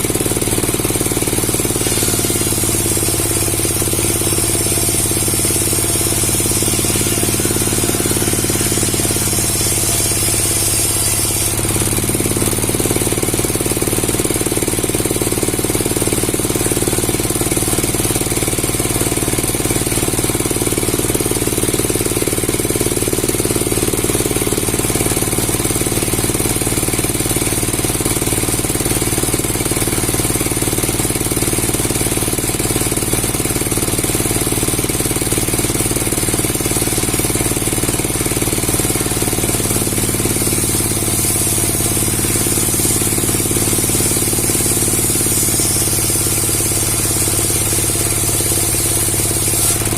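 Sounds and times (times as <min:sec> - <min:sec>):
wood-cutting machine rattling: 0:00.0 - 0:49.9.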